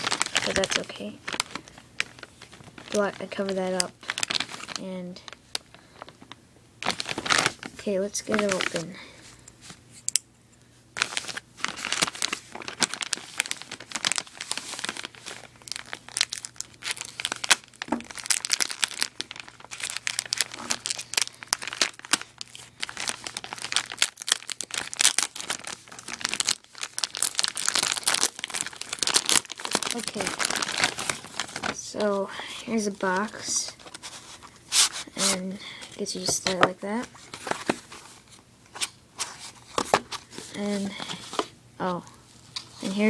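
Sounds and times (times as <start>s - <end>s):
plastic mailer crinkling and tearing: 0.0s - 9.0s, 11.0s - 41.5s.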